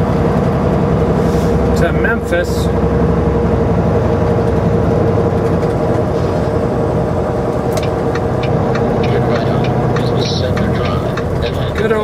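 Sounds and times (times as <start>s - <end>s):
road noise: 0.0s - 12.0s
truck diesel engine drone: 0.0s - 12.0s.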